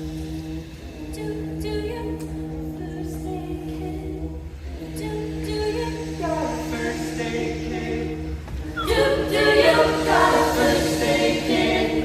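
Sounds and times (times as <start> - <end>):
a cappella group singing: 0.0 - 12.0.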